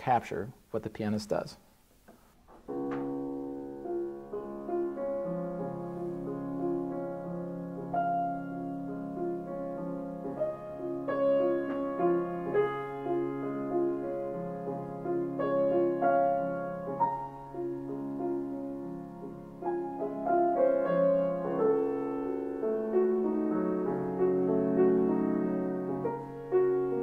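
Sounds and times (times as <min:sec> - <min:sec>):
grand piano playing: 0:02.6 - 0:27.0.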